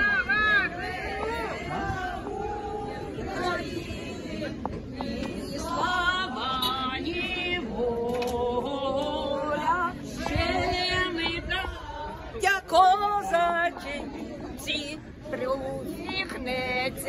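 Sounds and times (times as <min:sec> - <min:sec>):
group singing: 0:00.0 - 0:17.0.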